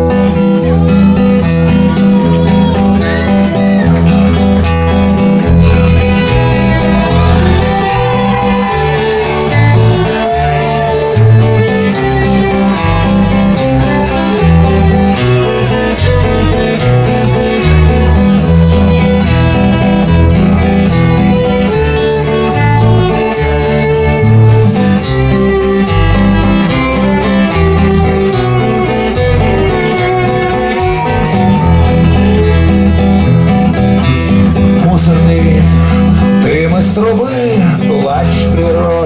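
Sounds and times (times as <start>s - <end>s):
violin melody: 0.0s - 36.4s
bass line: 0.0s - 39.0s
guitar: 0.0s - 39.0s.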